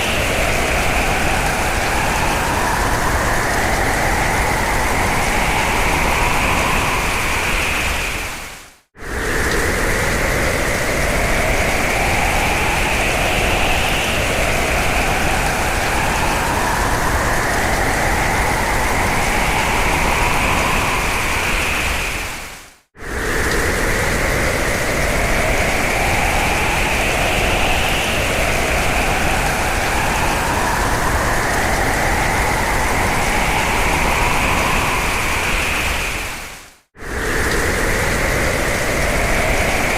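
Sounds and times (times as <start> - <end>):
strong howling wind: 0.0 - 39.9.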